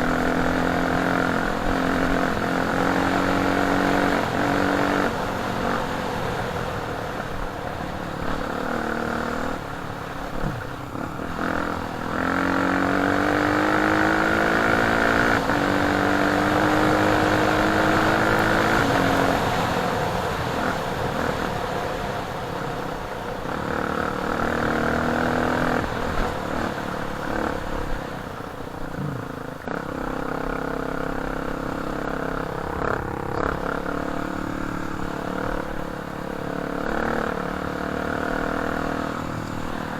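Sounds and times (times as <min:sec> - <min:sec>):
dirt bike engine accelerating: 0:00.0 - 0:39.9.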